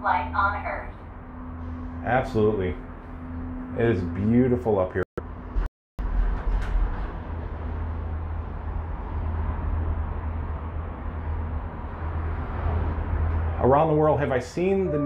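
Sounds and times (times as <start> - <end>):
gondola cabin rumble and hiss: 0.0 - 5.0, 6.1 - 15.0.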